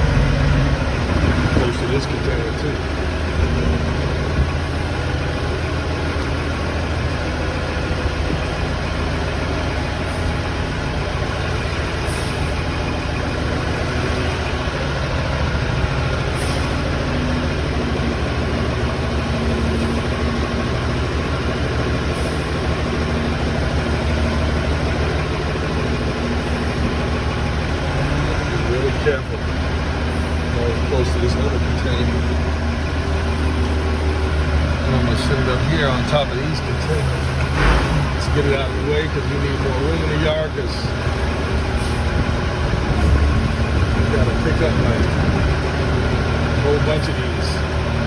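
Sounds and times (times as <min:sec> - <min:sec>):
forklift engine running under load: 0:00.0 - 0:48.0.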